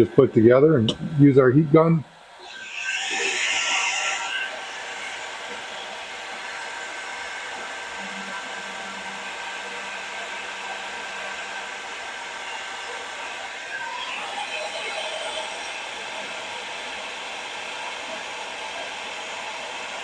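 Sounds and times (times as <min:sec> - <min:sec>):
heat gun fan blowing: 0:00.0 - 0:20.0.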